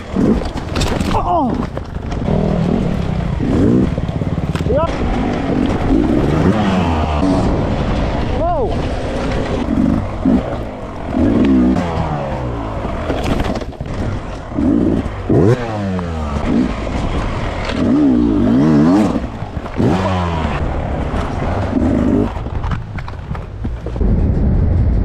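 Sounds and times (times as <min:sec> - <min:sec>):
dirt bike engine revving: 0:00.0 - 0:23.7.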